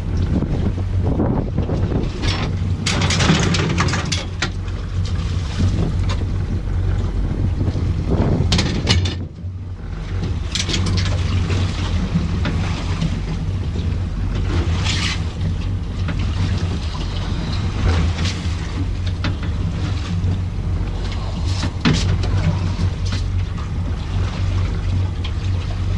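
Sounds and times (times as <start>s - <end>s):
boat motor running: 0.0s - 25.9s
wind on microphone: 0.0s - 25.9s.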